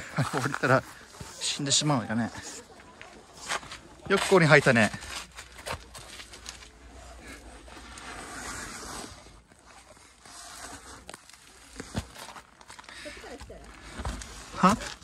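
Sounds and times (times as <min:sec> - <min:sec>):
clothing rubbing against rock: 0:00.0 - 0:15.0.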